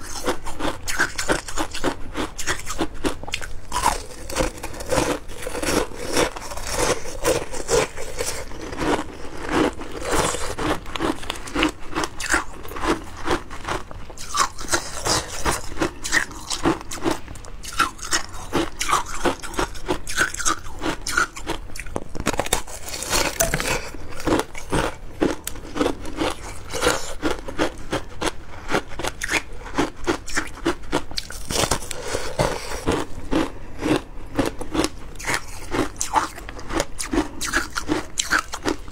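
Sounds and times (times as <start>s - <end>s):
crunching and chewing shaved ice: 0.0s - 38.9s.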